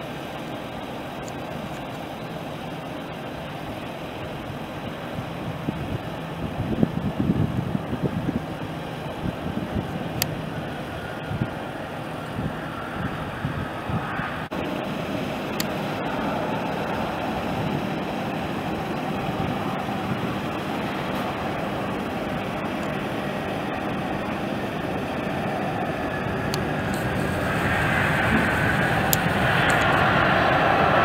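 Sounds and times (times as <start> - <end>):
jet engine whine: 0.0 - 31.0
jet engines rumbling: 0.0 - 31.0.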